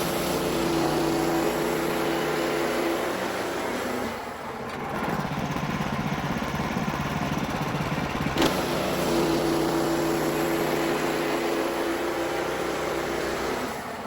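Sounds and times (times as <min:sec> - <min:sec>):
band sawmill running: 0:00.0 - 0:14.0.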